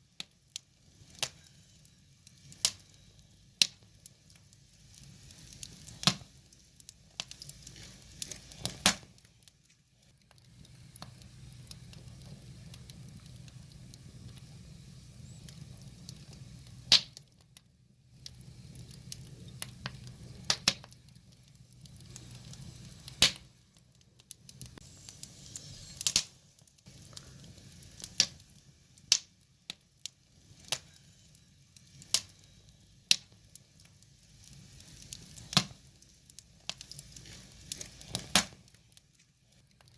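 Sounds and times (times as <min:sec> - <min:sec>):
low rumble of burning logs: 0:00.0 - 0:39.9
wood fire popping: 0:00.0 - 0:39.9.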